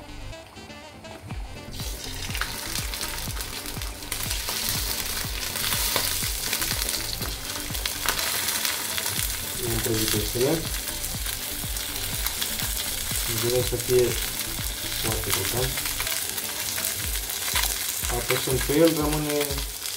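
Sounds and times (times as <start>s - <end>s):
fish sizzling in a frying pan: 1.7s - 19.9s.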